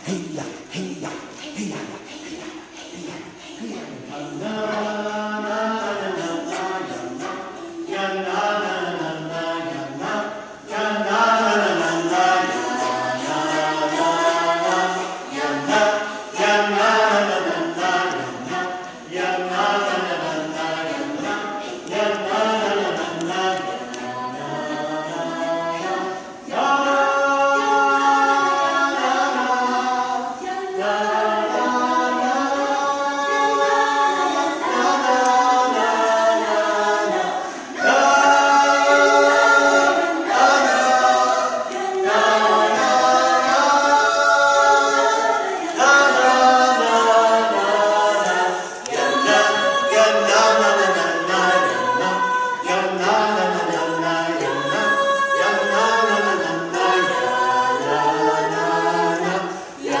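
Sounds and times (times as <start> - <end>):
a cappella singing in harmony: 0.0 - 60.0.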